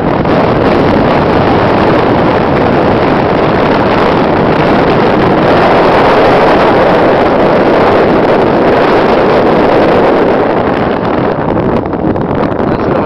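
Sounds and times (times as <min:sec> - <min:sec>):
air buffeting microphone: 0:00.0 - 0:13.0
wind and road noise: 0:00.0 - 0:13.0.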